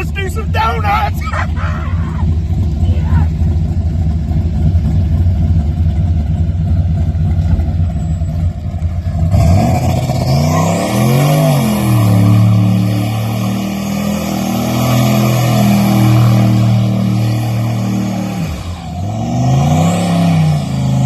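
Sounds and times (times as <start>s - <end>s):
truck engine running at high revs: 0.0s - 21.0s.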